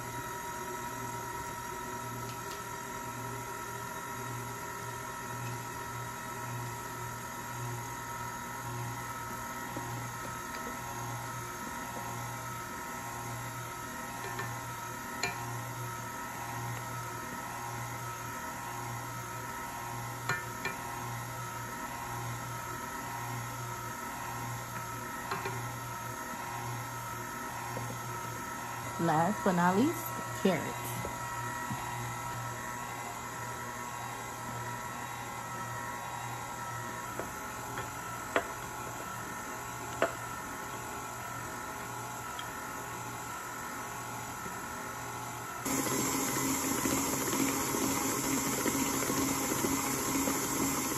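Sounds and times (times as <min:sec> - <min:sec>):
stand mixer humming: 0:00.0 - 0:39.5, 0:45.6 - 0:50.9.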